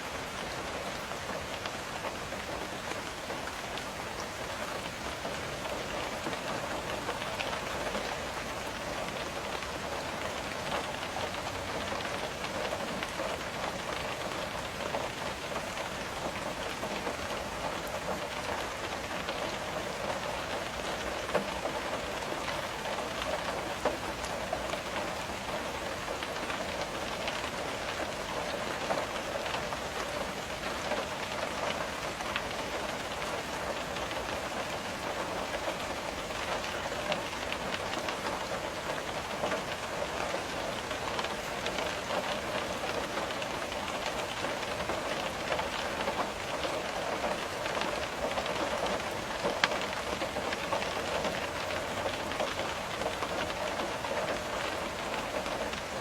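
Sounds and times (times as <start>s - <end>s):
rain tapping on window: 0.0s - 56.0s.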